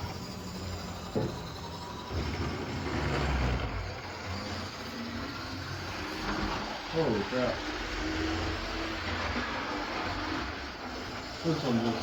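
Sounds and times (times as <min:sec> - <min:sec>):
model train motor whirring: 0:00.0 - 0:12.0.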